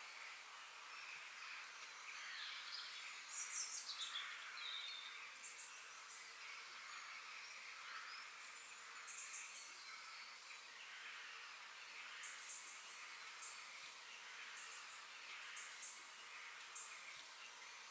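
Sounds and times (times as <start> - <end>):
birds chirping and trilling: 0.0 - 17.9
steady background hiss: 0.0 - 17.9.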